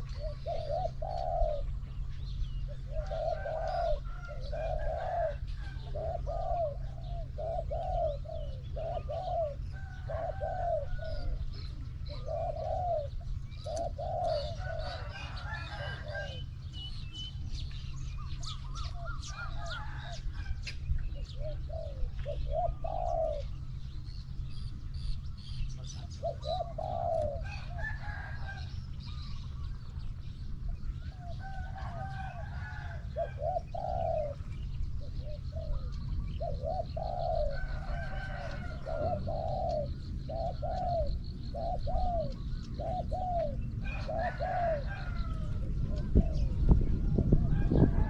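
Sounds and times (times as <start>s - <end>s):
dove cooing: 0.0s - 48.0s.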